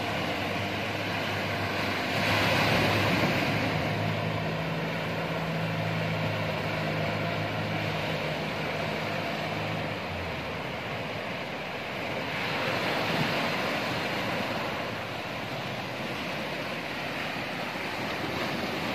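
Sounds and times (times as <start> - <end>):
outboard motor humming: 0.0 - 18.9
surf washing: 0.0 - 18.9
wave breaking: 0.0 - 18.9.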